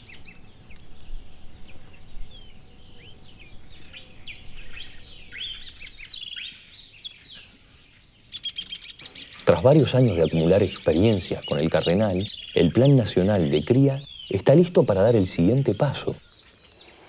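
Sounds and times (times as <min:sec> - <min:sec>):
wild birds chirping and calling: 0:00.0 - 0:17.0.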